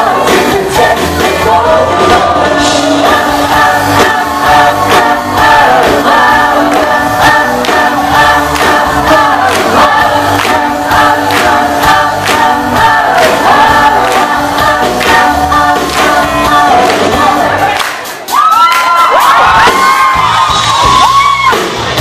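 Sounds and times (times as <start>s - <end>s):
group of people singing: 0.0s - 18.3s
live rock band playing: 0.0s - 22.0s.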